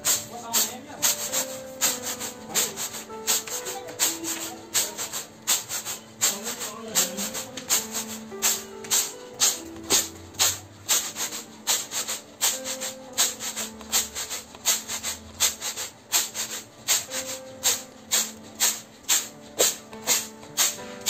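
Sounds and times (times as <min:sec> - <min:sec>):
lentils rattling in winnowing basket: 0:00.0 - 0:21.0
soft background music: 0:00.0 - 0:21.0.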